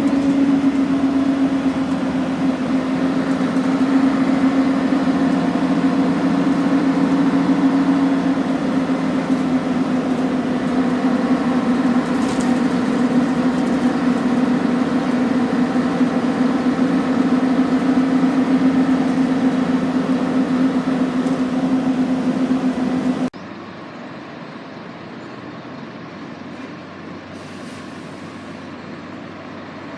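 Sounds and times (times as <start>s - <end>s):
bus engine droning: 0.0s - 29.9s.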